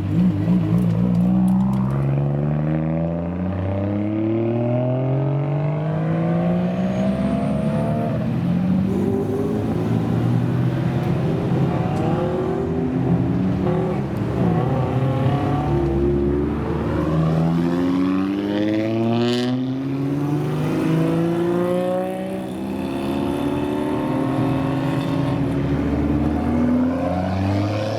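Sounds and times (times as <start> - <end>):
car engines accelerating: 0.0 - 27.9.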